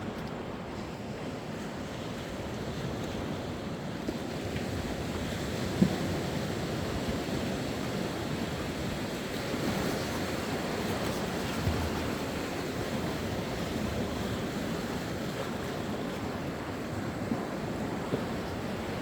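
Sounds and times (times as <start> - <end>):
sea waves washing ashore: 0.0 - 19.0.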